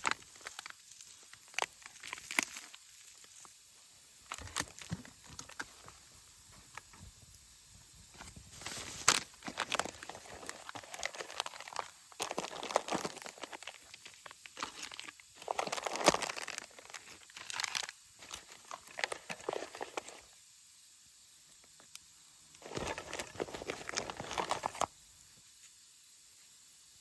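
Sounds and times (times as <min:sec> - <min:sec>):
rustling and crinkling handling: 0:00.0 - 0:03.6, 0:04.2 - 0:20.4, 0:22.6 - 0:25.8.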